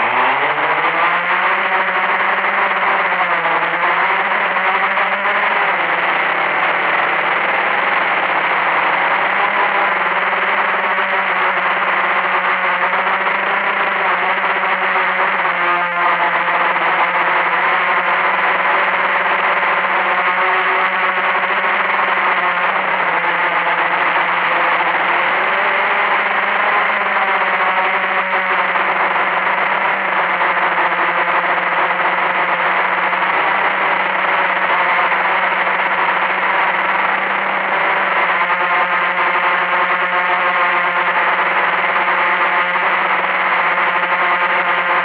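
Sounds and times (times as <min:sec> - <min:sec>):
quadcopter propellers whirring: 0:00.0 - 0:45.0.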